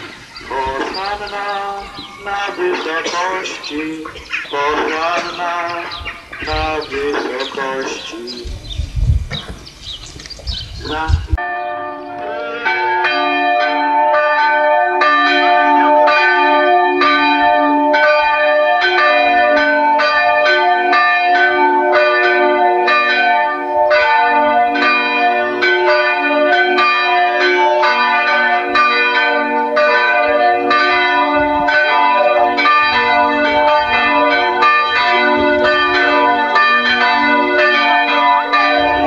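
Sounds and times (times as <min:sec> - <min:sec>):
church bells pealing: 0:00.0 - 0:08.8, 0:10.8 - 0:39.0.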